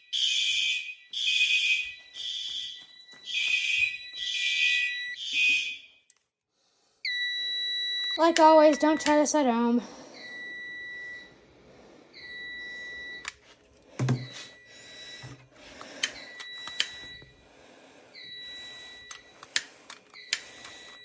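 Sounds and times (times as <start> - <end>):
fire alarm beeping: 0.0 - 6.2, 7.0 - 21.0.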